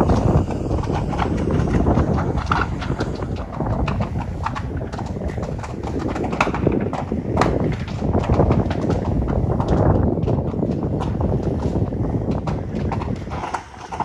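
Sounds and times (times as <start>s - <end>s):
sharp cracks and pops: 0.0s - 14.0s
wind buffeting microphone: 0.0s - 14.0s.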